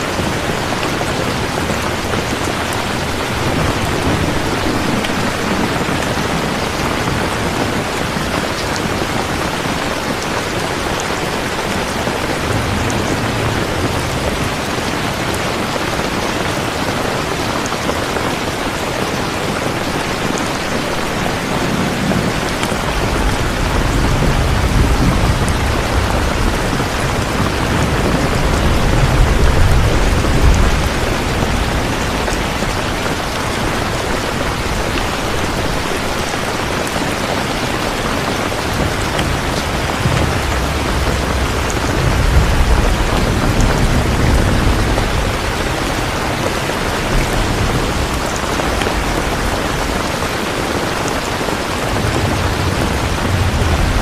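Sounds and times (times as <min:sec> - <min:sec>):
thunder rolling: 0:00.0 - 0:17.4, 0:19.7 - 0:54.0
heavy rain: 0:00.0 - 0:54.0.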